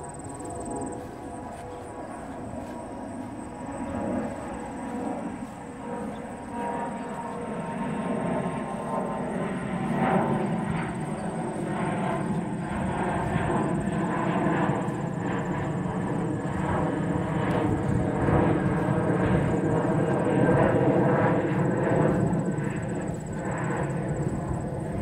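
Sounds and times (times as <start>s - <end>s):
aircraft engine droning overhead: 0.0s - 25.0s.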